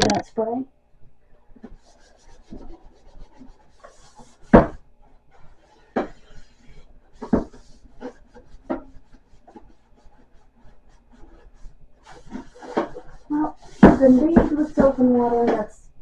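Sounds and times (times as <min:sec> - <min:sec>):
sponge scrubbing a pot: 0:01.8 - 0:04.5, 0:05.3 - 0:15.7.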